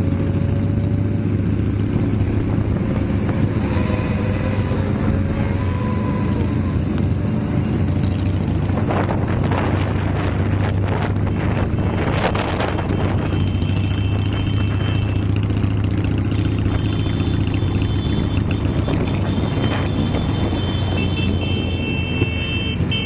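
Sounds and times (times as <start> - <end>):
motorcycle engine drone: 0.0 - 23.0
other motorcycle engines: 0.0 - 23.0.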